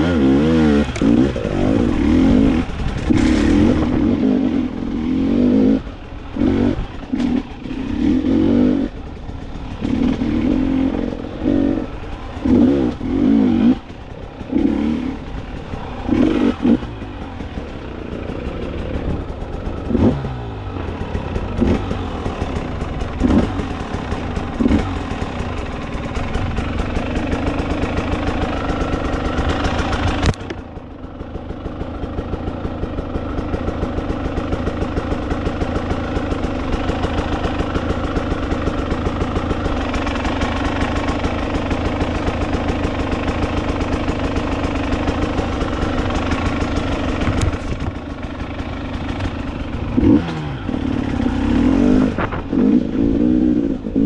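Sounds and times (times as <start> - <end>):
dirt bike engine revving: 0.0 - 30.6, 32.4 - 54.0.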